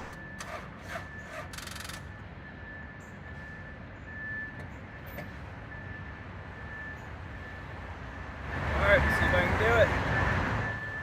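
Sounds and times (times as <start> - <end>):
engines rumbling: 0.0 - 11.0.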